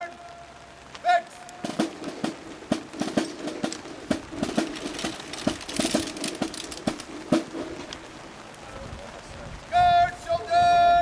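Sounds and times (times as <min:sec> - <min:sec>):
raindrops tapping a surface: 0:00.1 - 0:09.8.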